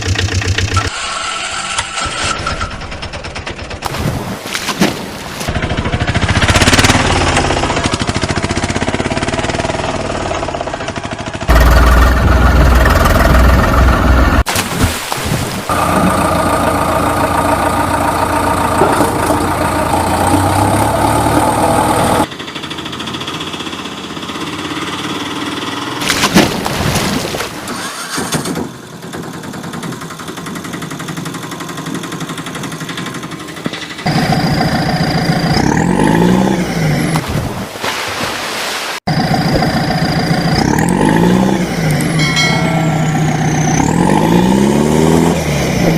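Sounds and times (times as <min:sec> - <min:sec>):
vehicle engine: 0:00.0 - 0:04.3, 0:05.4 - 0:14.6, 0:15.7 - 0:26.7, 0:27.6 - 0:37.3, 0:39.1 - 0:45.9.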